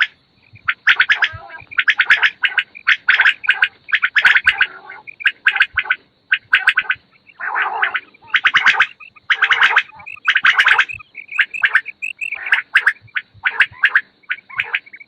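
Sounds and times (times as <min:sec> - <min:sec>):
quail calling: 0:00.0 - 0:15.0.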